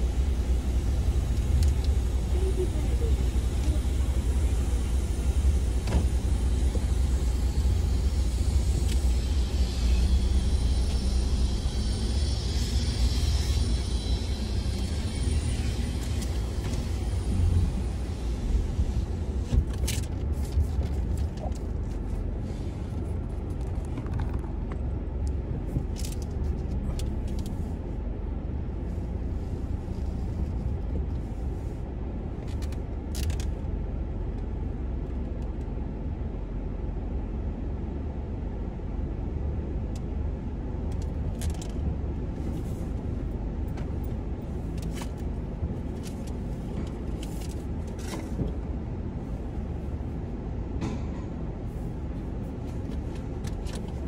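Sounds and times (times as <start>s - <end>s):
car rolling low rumble: 0.0s - 54.0s.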